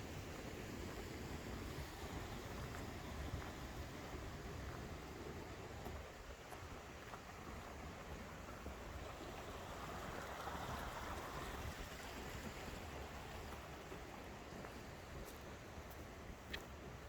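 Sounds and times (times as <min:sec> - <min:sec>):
stream water rushing over rocks: 0:00.1 - 0:17.0.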